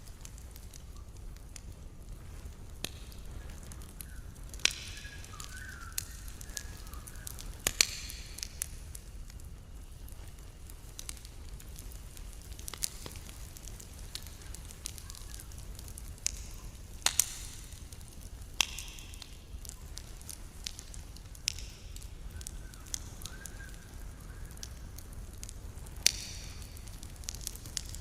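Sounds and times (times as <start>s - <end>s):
campfire crackling and popping: 0.0s - 28.0s
low fire rumble: 0.0s - 28.0s.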